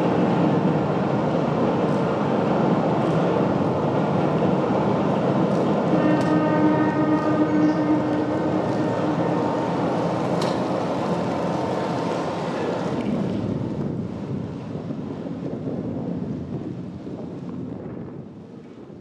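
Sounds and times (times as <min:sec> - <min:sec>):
train rumbling across steel bridge: 0:00.0 - 0:19.0
wind: 0:00.0 - 0:19.0.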